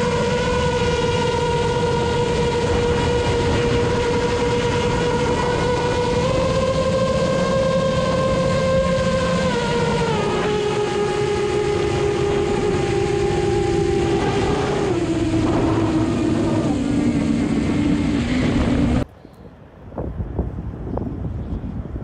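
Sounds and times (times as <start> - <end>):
drone propellers whining: 0.0 - 19.1
rough rushing noise: 0.0 - 19.1.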